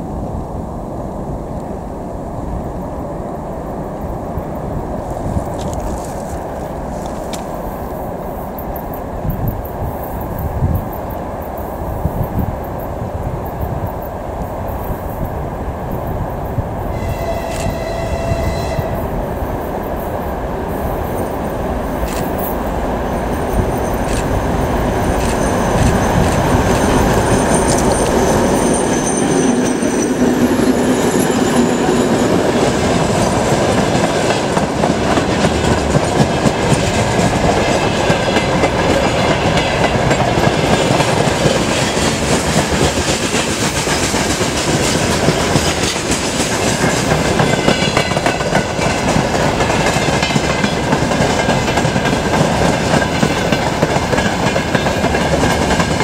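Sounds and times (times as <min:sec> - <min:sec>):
diesel locomotive engines: 0:00.0 - 0:56.0.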